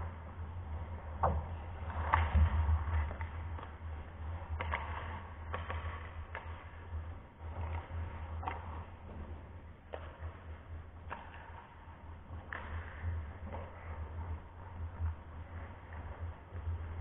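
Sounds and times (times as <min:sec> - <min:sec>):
hockey sticks and puck clacking: 0:00.7 - 0:17.0.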